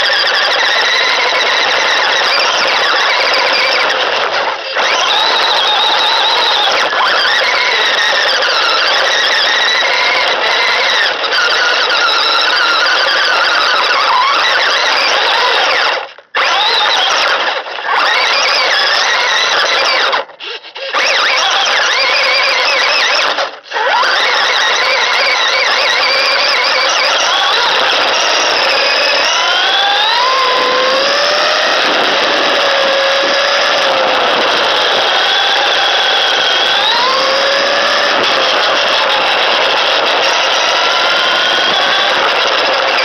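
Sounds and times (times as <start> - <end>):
electric motor whining: 0.0 - 43.0.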